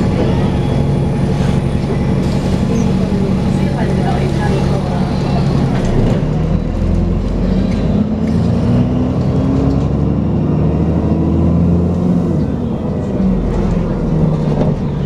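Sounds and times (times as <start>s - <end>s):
bus engine whining under load: 0.0s - 15.0s.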